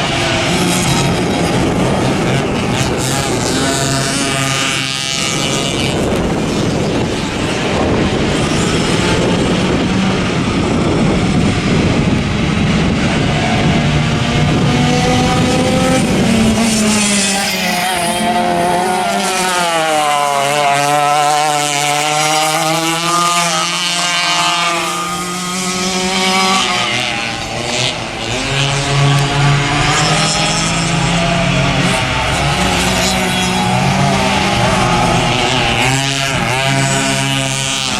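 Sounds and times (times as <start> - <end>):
racing kart engines revving: 0.0 - 37.9.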